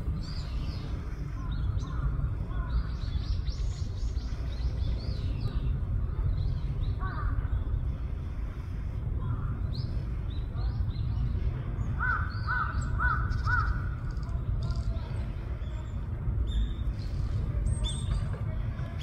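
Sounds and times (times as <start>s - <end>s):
steady low rumble: 0.0s - 19.0s
wild birds chirping: 0.0s - 19.0s.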